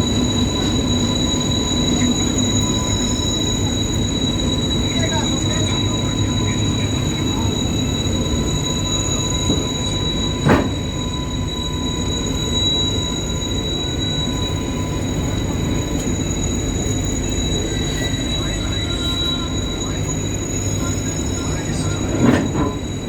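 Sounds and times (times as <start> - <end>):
electric locomotive rumbling: 0.0 - 23.0
high-pitched whine: 0.0 - 23.0.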